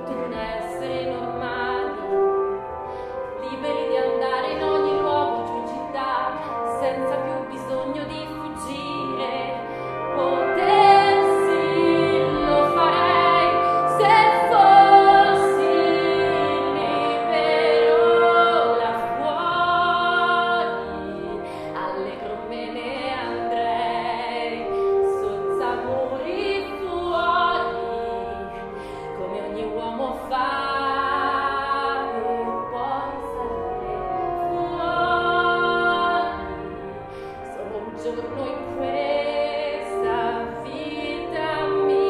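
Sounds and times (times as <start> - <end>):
instrumental accompaniment: 0.0 - 42.0
woman singing operatic ballad: 0.0 - 42.0.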